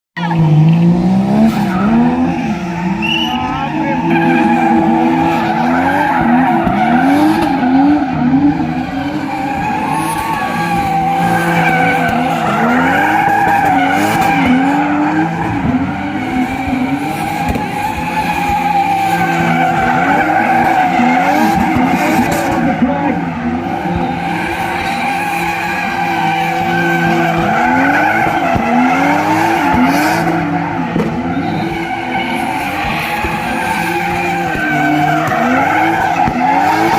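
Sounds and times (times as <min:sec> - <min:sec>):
car engine revving: 0:00.2 - 0:36.9.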